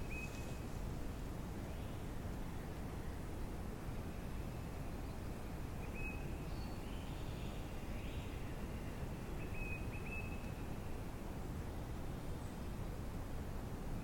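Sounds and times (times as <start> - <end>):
woodland background noise: 0.0 - 14.0.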